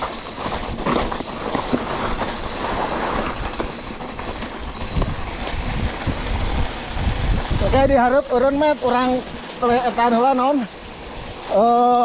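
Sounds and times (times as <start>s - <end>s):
wind buffeting microphone: 0.0s - 11.6s
mountain bike rattling on dirt trail: 0.0s - 12.0s.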